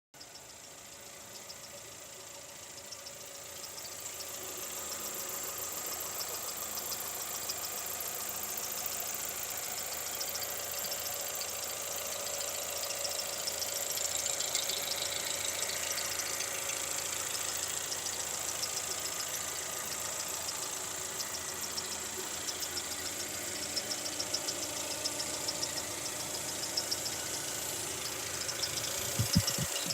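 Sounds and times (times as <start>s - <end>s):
car engine with rapid knock: 2.7s - 29.9s.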